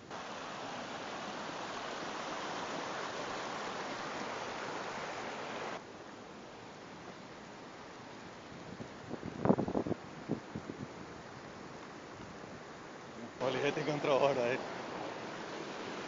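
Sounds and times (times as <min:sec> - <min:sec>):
faint hiss: 0:00.0 - 0:16.0
rushing water: 0:00.0 - 0:16.0.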